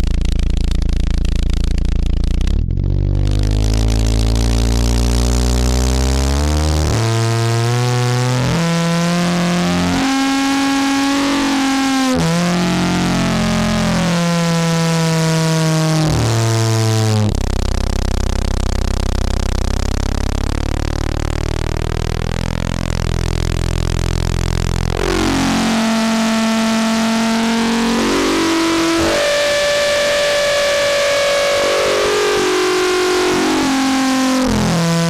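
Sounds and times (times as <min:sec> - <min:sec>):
distorted synthesizer tone: 0:00.0 - 0:35.0
low buzzing drone: 0:00.0 - 0:35.0.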